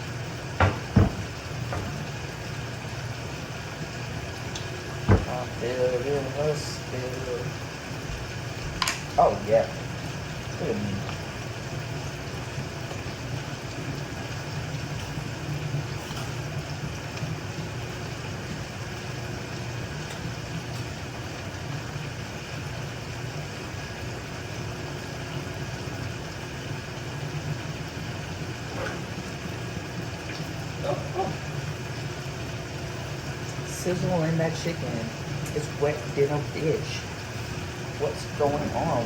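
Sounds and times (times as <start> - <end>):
chicken sizzling in a pan: 0.0 - 39.0
low even hum: 0.0 - 39.0.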